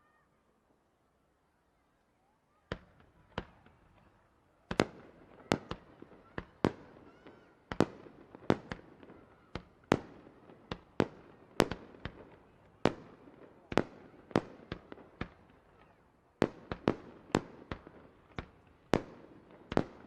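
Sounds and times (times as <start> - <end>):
fireworks bangs: 2.7 - 20.0.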